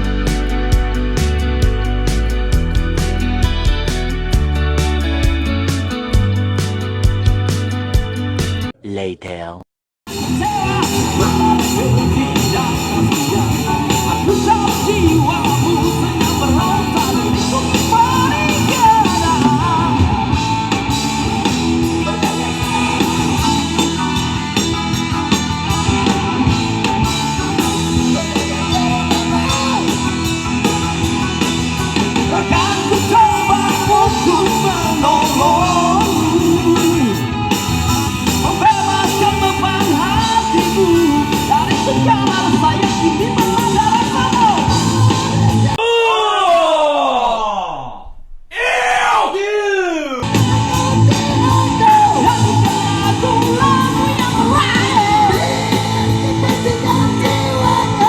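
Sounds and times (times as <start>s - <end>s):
rock band with electric guitar: 0.0s - 8.8s, 10.1s - 46.0s, 50.2s - 58.0s
person singing rock vocals: 10.1s - 58.0s.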